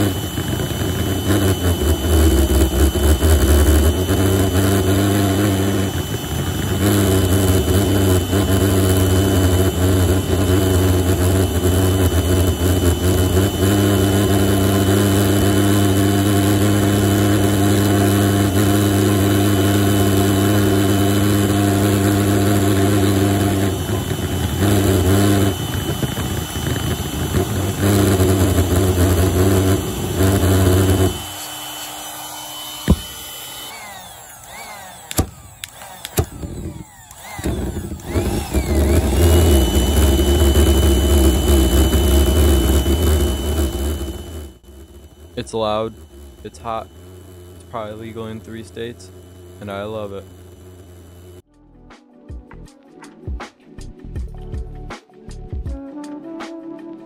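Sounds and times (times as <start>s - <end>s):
electric air pump blowing: 0.0s - 51.4s
pulsejet engine buzzing: 0.0s - 51.5s.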